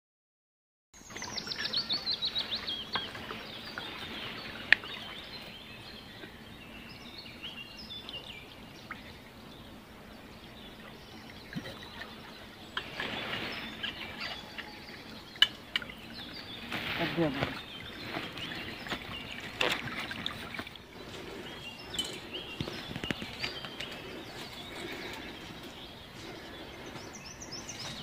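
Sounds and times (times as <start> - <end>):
small birds chirping: 1.0 - 28.0
steady background hiss: 1.0 - 28.0.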